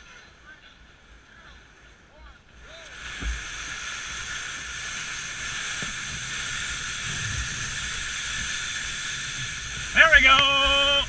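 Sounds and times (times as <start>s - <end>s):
kayak rushing through water: 0.0s - 11.0s.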